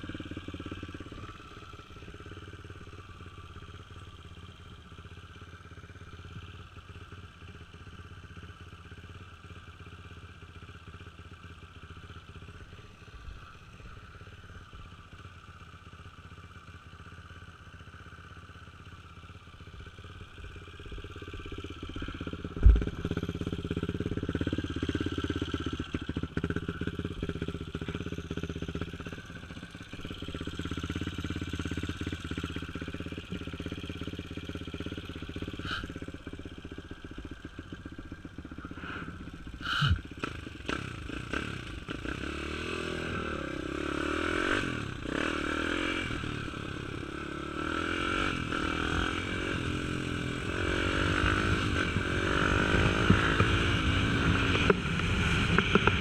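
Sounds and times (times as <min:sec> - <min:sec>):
motorcycle engine idling: 0:00.0 - 0:56.0
motorcycle engine revving: 0:00.0 - 0:56.0.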